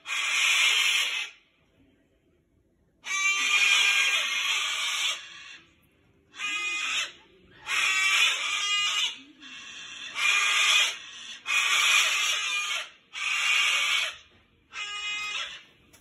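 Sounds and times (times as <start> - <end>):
cockatoo screeching: 0.0 - 1.4, 3.0 - 5.7, 6.3 - 15.7.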